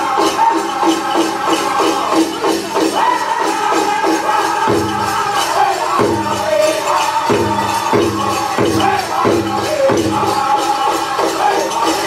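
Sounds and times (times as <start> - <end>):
men singing in unison: 0.0 - 12.0.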